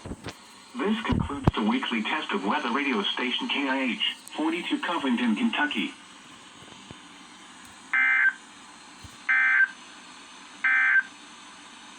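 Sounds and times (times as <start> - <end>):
faint radio hiss: 0.0 - 11.9.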